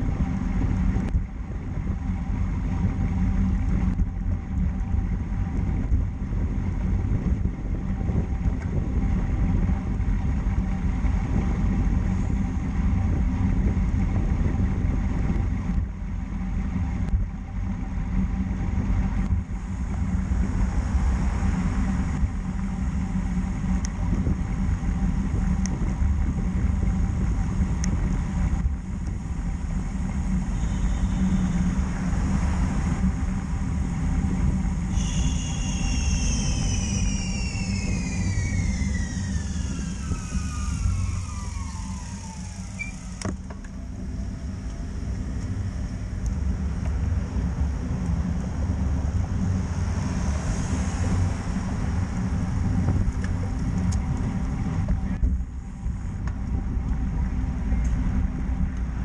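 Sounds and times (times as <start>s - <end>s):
high two-toned whine: 0.0s - 59.0s
road noise: 0.0s - 59.0s
wind rush: 0.0s - 59.0s.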